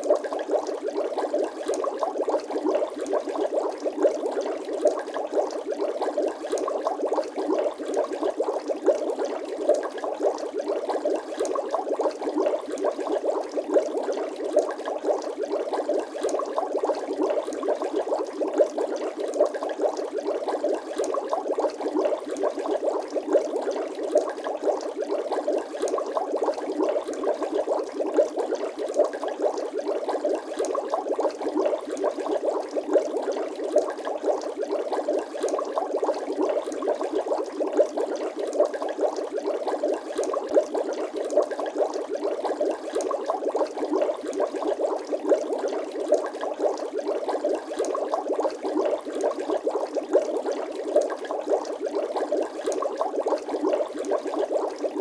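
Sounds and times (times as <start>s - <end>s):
water bubbling and gurgling: 0.0s - 55.0s.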